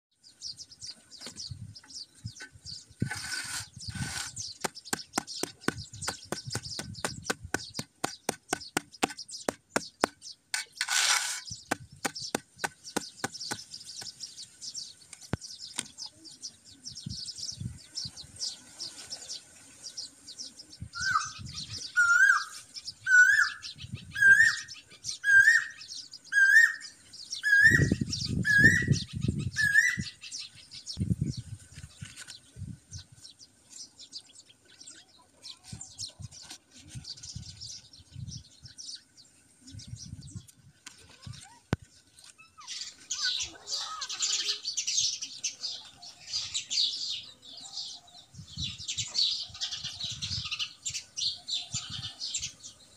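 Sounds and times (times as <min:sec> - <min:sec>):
birds chirping: 0:00.1 - 0:52.9.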